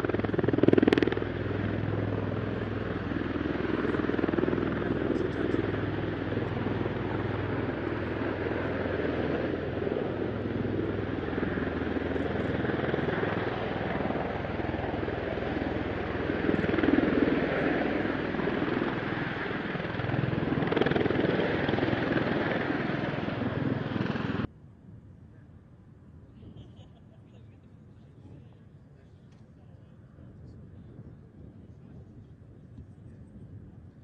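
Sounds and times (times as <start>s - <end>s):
aircraft engines and rotors droning: 0.0s - 34.0s.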